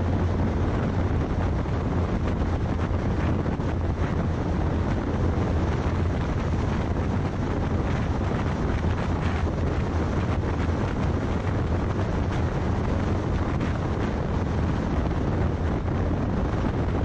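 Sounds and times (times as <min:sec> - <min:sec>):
car tyre and road noise: 0:00.0 - 0:17.0
wind rumble on microphone: 0:00.0 - 0:17.0.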